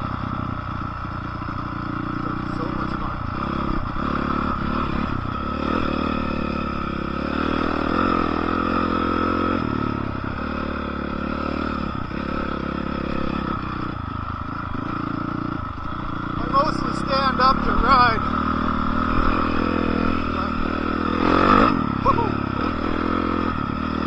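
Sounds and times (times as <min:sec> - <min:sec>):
dirt bike engine running: 0:00.0 - 0:24.0.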